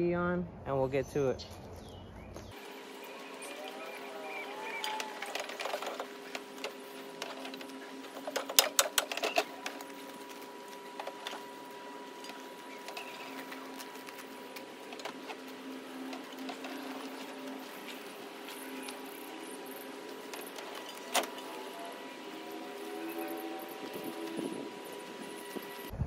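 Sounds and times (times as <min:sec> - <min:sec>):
electric pump humming: 0:02.5 - 0:26.0.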